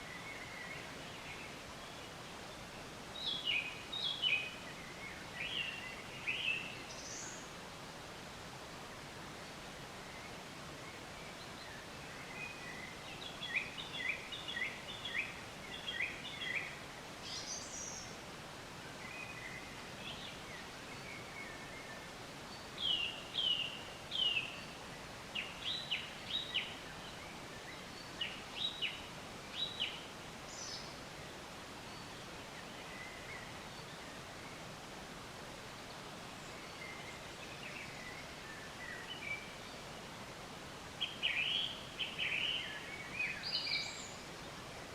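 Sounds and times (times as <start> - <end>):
forest birds singing: 0.0 - 44.9
steady background hiss: 0.0 - 44.9.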